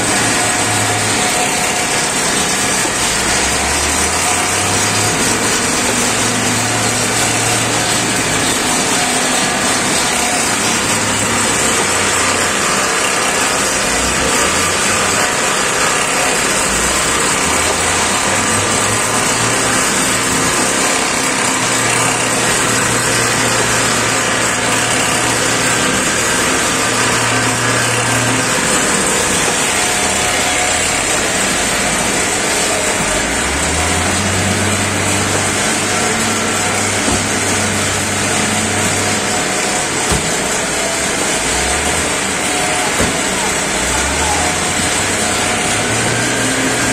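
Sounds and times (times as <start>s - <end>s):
conveyor machinery noise: 0.0s - 46.9s
low motor hum: 0.0s - 46.9s.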